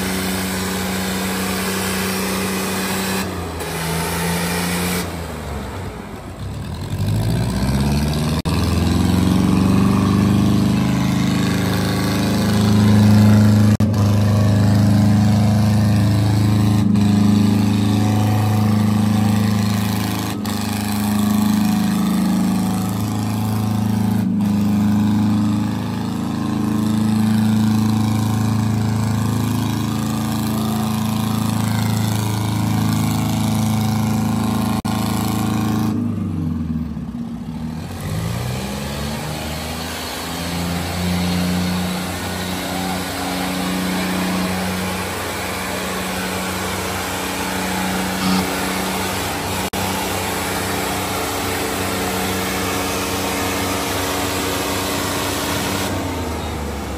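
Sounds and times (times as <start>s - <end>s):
diesel tractor engines under load: 0.0s - 56.9s.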